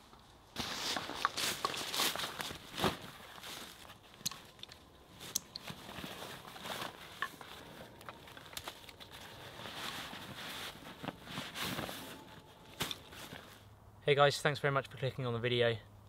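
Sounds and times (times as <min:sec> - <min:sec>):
dry leaves rustling under boots: 0:00.4 - 0:13.7.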